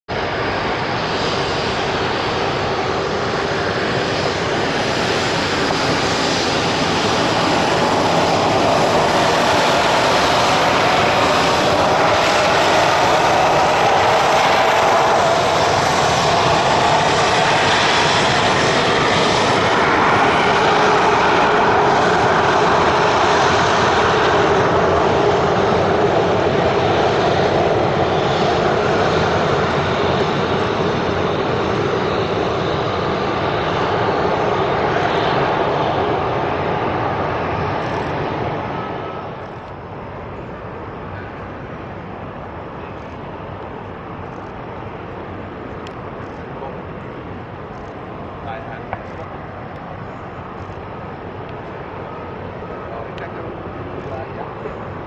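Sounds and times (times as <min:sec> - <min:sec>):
jet engines whining: 0:00.1 - 0:55.0.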